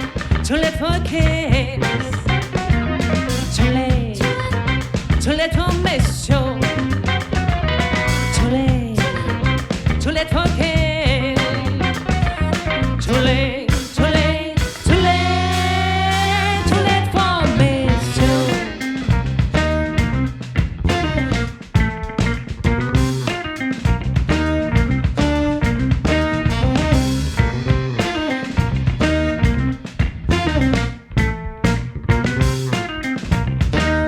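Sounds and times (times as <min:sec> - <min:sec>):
live funk band playing: 0:00.0 - 0:34.0.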